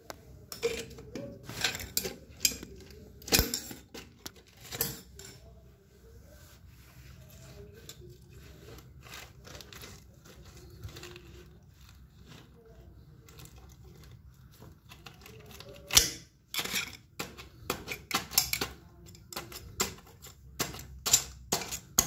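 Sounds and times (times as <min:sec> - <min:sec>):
tools clicking and scraping: 0:00.1 - 0:05.5, 0:07.4 - 0:22.0.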